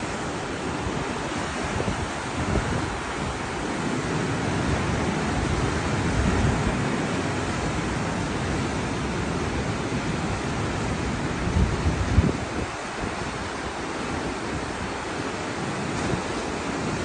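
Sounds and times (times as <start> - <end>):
ocean surf breaking waves: 0.0 - 17.0.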